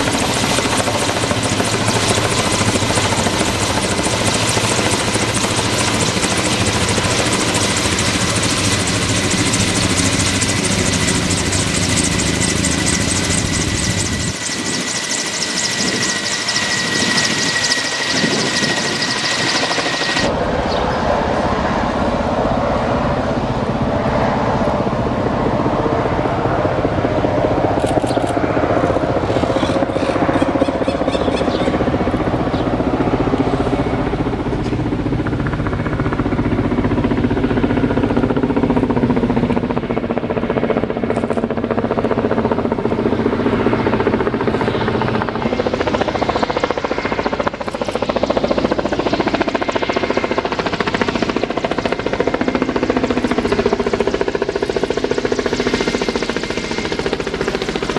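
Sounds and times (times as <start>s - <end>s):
helicopter engine whine: 0.0s - 57.9s
helicopter rotors beating: 0.0s - 57.9s.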